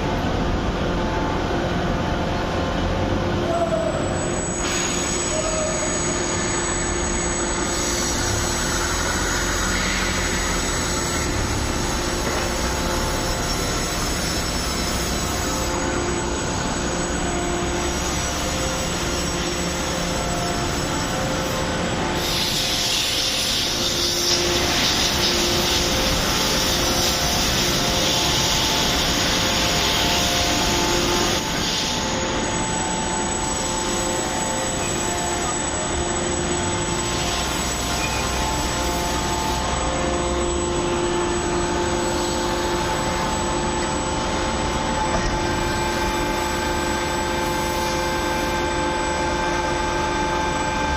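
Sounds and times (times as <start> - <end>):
hydraulic press machine noise: 0.0 - 50.9
hydraulic whine: 0.0 - 50.9.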